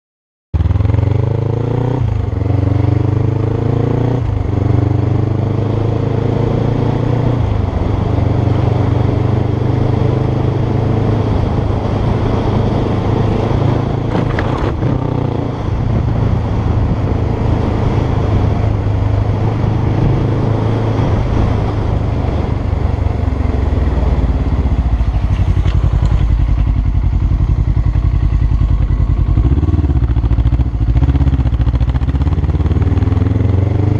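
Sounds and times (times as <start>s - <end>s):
motorcycle engine accelerating: 0.6s - 33.9s.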